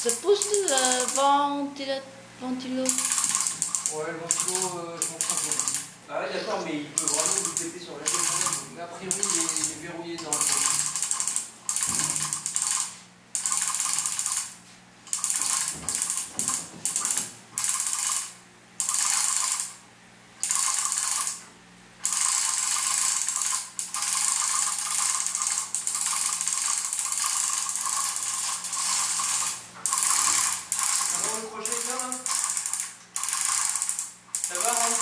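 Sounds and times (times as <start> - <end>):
hoist ratchet pawl clicking: 0.0 - 1.2, 2.9 - 5.9, 7.0 - 19.8, 20.4 - 21.4, 22.0 - 35.0.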